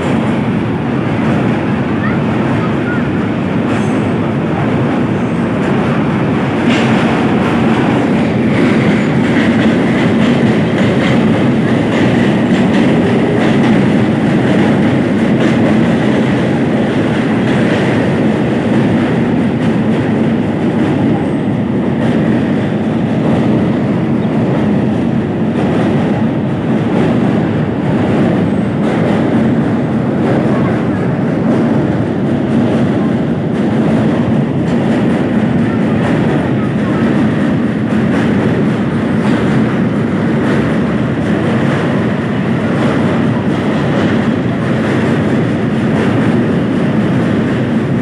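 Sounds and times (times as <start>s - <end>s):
clickety-clack of train wheels: 0.0s - 48.0s
passing train: 0.0s - 48.0s
train rumbling over bridge: 0.0s - 48.0s.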